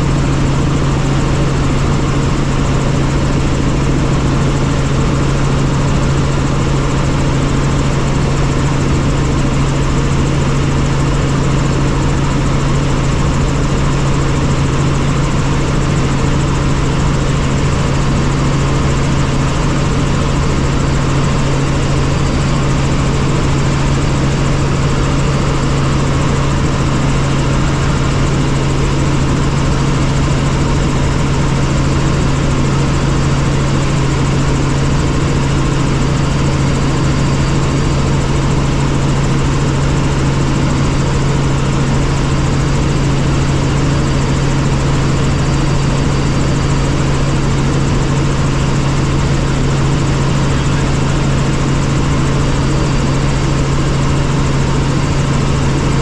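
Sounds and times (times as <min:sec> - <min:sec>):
helicopter turbine and rotors: 0:00.0 - 0:56.0.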